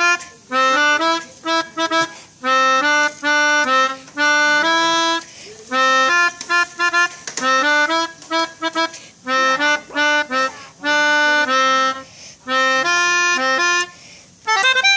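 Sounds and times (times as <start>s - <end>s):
melodica playing a tune: 0.0s - 14.9s.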